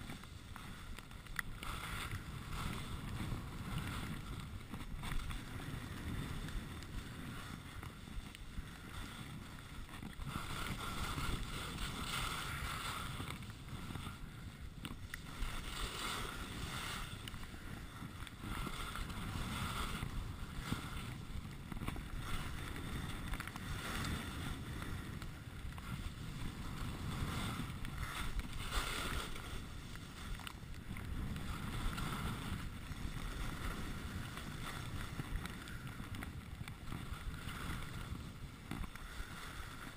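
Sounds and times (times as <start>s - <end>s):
skis scraping on snow: 0.0s - 39.9s
wind rumble on microphone: 0.0s - 39.9s.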